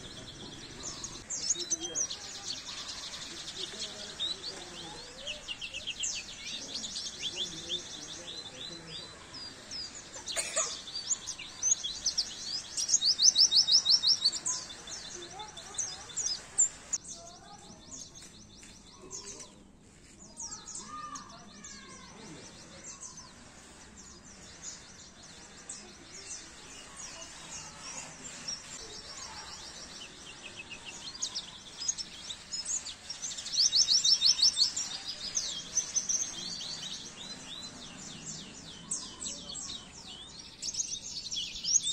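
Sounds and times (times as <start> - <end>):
bird twittering chirps: 0.0 - 19.4, 20.4 - 41.9.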